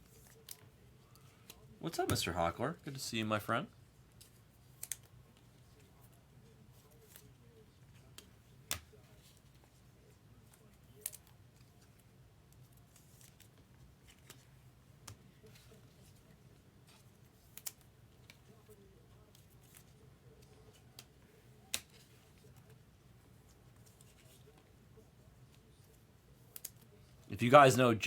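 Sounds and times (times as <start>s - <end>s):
faint room hum: 0.0s - 28.0s.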